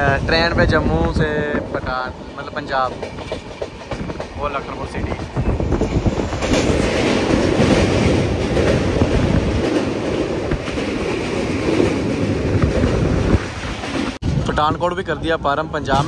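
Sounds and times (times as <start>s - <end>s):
train rail noise: 0.0s - 16.0s.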